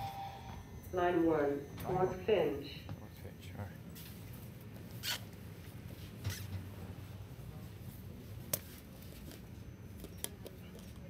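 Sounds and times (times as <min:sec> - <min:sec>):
subway car humming: 0:00.0 - 0:09.9.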